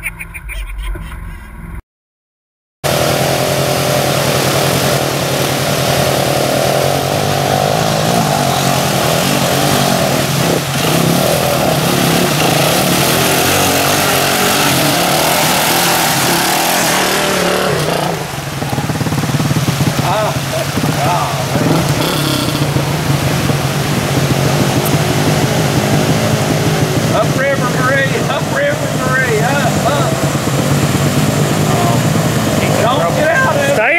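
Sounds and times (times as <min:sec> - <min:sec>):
quad bike engine running: 0:02.8 - 0:33.9
rushing river water: 0:02.8 - 0:33.9.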